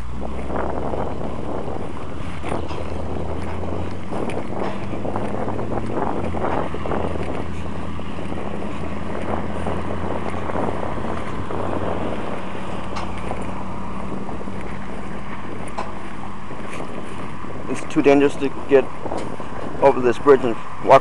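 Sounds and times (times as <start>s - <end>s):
low engine hum: 0.0s - 21.0s
wind buffeting microphone: 0.0s - 21.0s.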